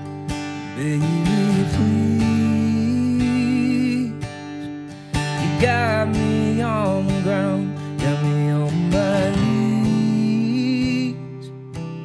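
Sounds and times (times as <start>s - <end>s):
acoustic guitar strumming: 0.0s - 12.0s
man singing: 0.5s - 12.0s.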